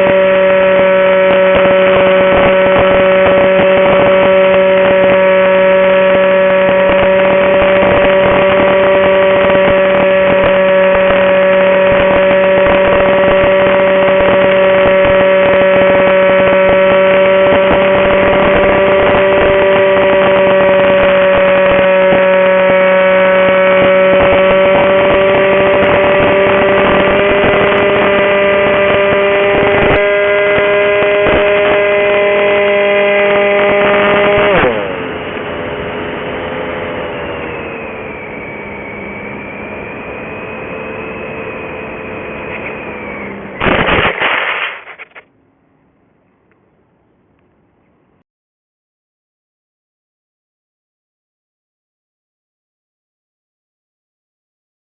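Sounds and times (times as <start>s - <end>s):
electric motor whine: 0.0s - 45.2s.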